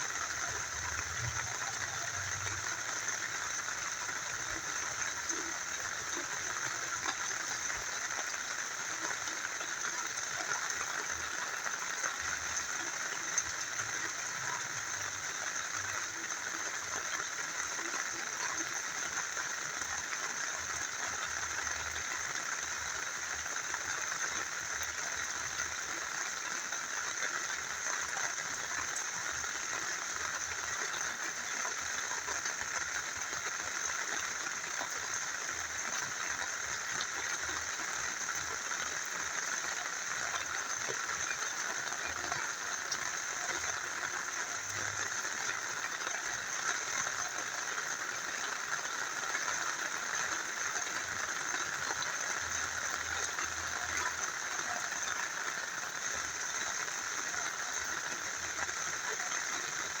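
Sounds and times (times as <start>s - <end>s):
rain falling: 0.0s - 60.0s
small river flowing: 0.0s - 60.0s.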